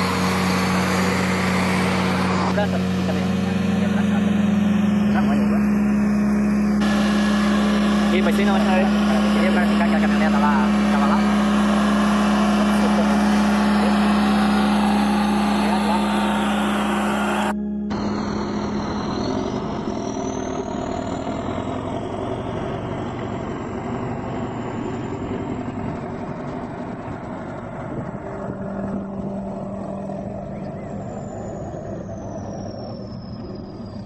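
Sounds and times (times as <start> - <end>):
heavy vehicle engine rumbling: 0.0 - 34.0.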